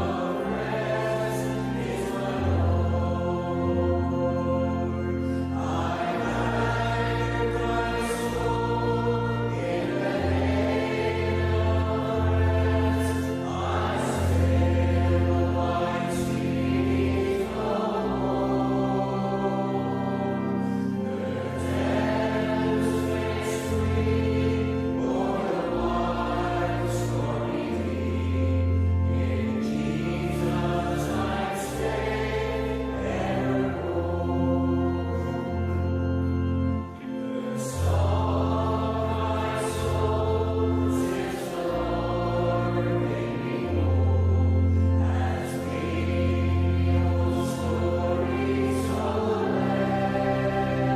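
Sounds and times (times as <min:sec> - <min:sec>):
choir singing gospel music: 0:00.0 - 0:50.9.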